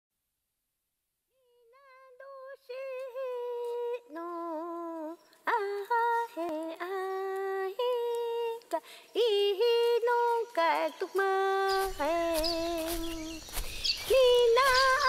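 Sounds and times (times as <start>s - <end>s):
woman singing unaccompanied: 1.4s - 15.0s.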